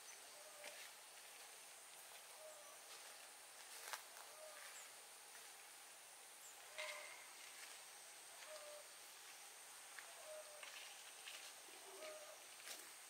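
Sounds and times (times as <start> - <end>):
insect hum: 0.0 - 13.0.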